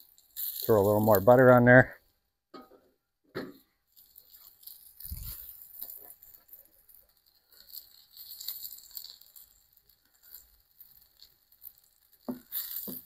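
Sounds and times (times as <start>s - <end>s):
butter sizzling on griddle: 0.0s - 2.7s, 3.3s - 13.0s.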